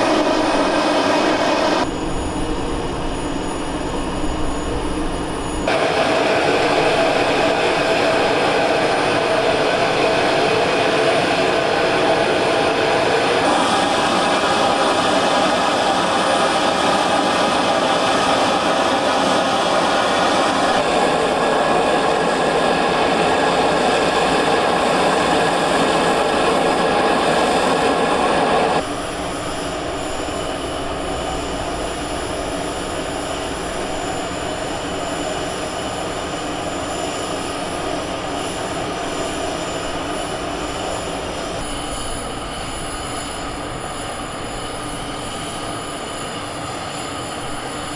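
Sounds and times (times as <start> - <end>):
aircraft turbine roar: 0.0 - 47.9
high turbine whine: 0.0 - 47.9.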